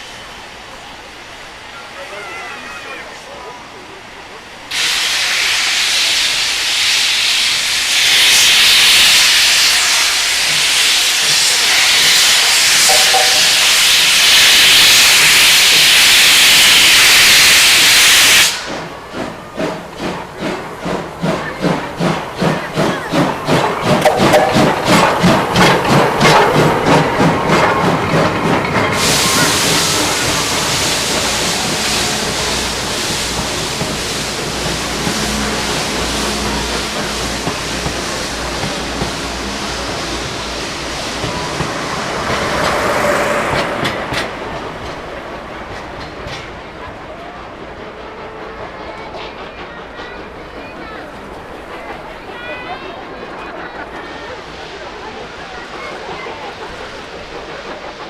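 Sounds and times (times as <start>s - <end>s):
steam hiss: 4.6s - 58.0s
steam locomotive exhaust chuffs: 4.7s - 58.0s.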